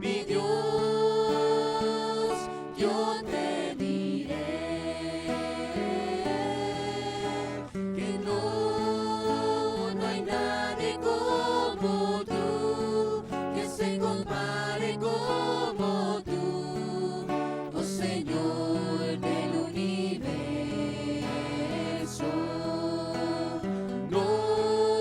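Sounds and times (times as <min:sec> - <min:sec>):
worship music with bass and percussion: 0:02.8 - 0:25.0.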